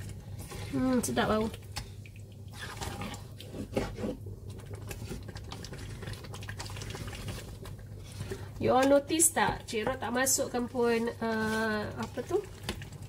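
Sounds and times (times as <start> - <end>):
thick curry bubbling and popping: 0.0 - 13.0.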